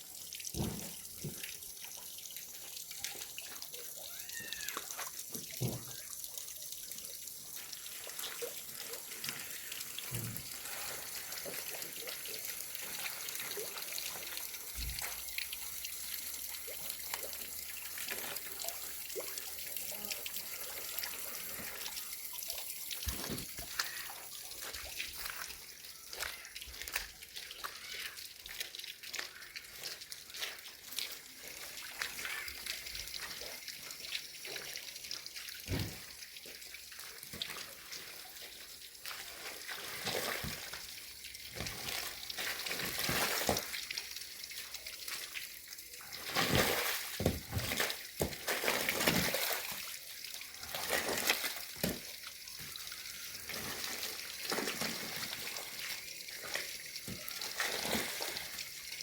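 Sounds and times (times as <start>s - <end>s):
water drips and clicks: 0.0s - 59.0s
water running and splashing: 0.0s - 59.0s.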